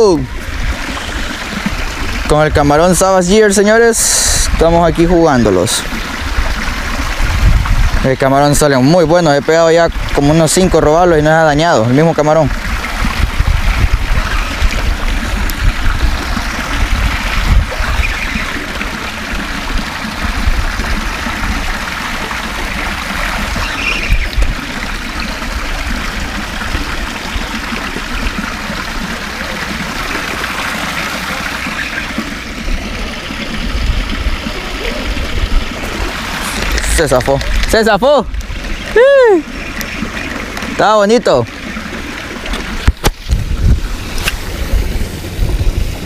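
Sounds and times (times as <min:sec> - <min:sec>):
wind buffeting microphone: 0:00.0 - 0:09.2, 0:09.8 - 0:11.8, 0:12.4 - 0:30.9, 0:31.6 - 0:40.6, 0:41.8 - 0:46.0.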